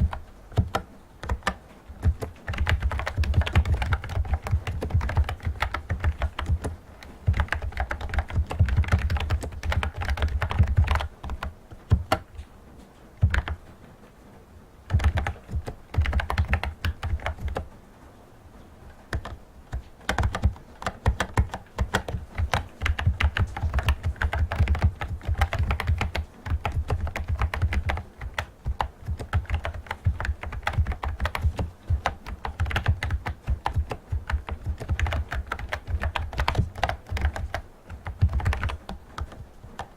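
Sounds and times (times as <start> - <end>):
fast typing on keyboard: 0.0 - 12.4, 13.2 - 13.7, 14.8 - 17.7, 18.8 - 39.9.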